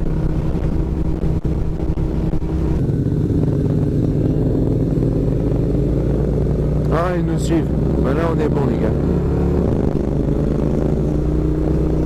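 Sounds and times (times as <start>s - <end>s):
motorcycle engines running: 0.0s - 12.0s
wind rushing over microphone: 0.0s - 12.0s.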